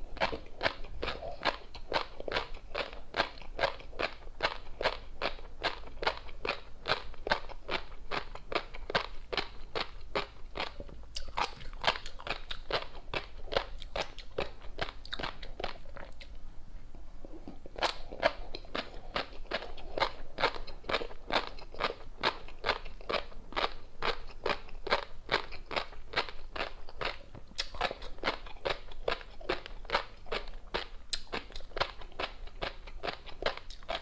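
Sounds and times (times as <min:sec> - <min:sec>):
crunchy chewing: 0:00.0 - 0:16.4, 0:17.2 - 0:34.0.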